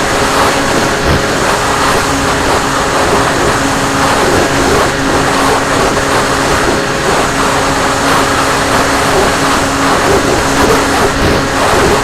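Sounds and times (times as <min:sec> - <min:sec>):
low motor hum: 0:00.0 - 0:12.0
wind and propeller rush: 0:00.0 - 0:12.0.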